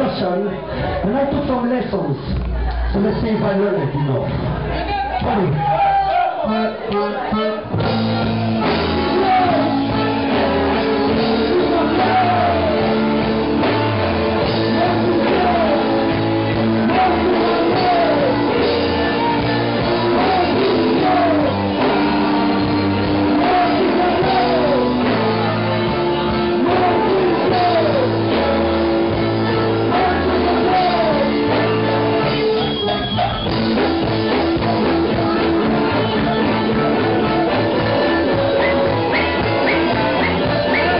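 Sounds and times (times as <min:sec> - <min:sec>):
live rock band playing: 0:00.0 - 0:40.9
person singing: 0:06.4 - 0:40.9
repeating bass riff: 0:06.4 - 0:40.9.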